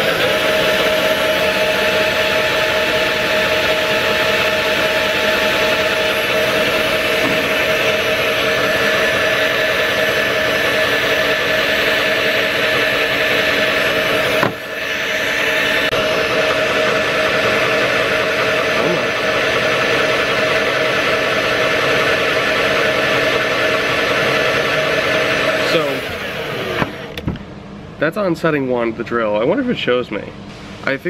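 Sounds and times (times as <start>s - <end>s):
cordless drill running: 0.0s - 27.2s.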